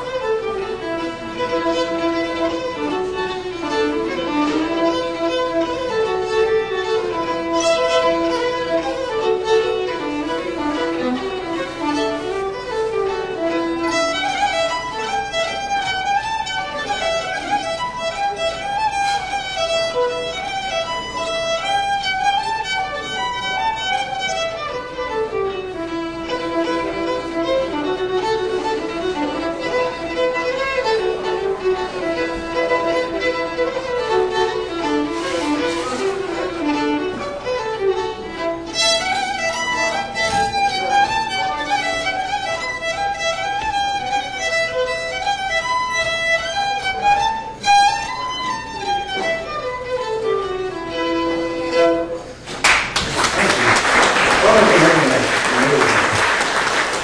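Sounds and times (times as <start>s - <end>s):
solo fiddle playing: 0.0s - 52.4s.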